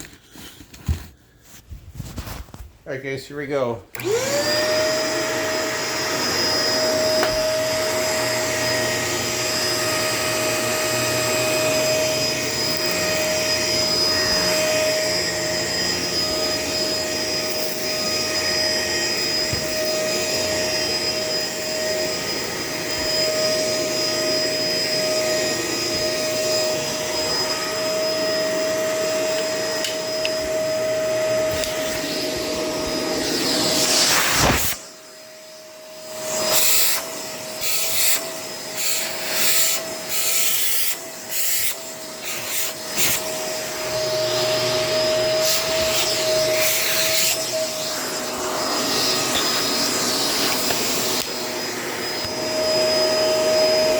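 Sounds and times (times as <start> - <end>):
vacuum cleaner motor whine: 3.9 - 53.9.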